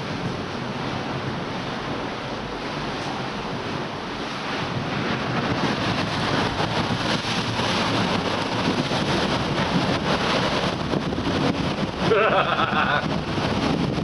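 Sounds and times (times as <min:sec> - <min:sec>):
water churning in boat wake: 0:00.0 - 0:14.0
wind buffeting microphone: 0:00.0 - 0:14.0.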